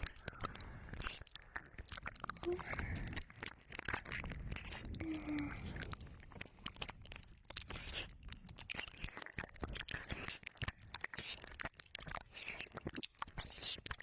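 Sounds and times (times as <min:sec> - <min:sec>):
wet mouth clicks and slurps: 0:00.0 - 0:14.0.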